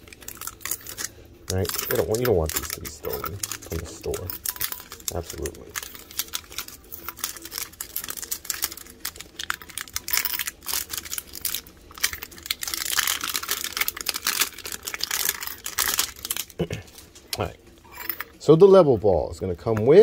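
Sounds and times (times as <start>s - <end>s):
plastic wrap crackling and crinkling: 0.0s - 17.3s.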